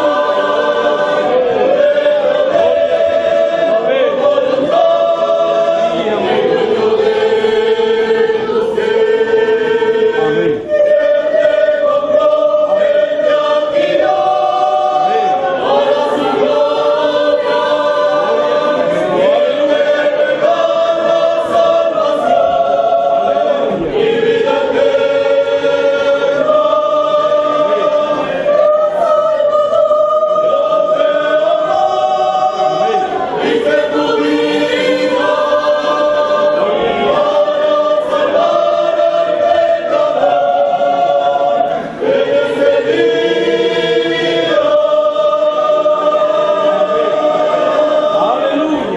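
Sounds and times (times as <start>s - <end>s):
youth choir singing a hymn: 0.0s - 48.9s.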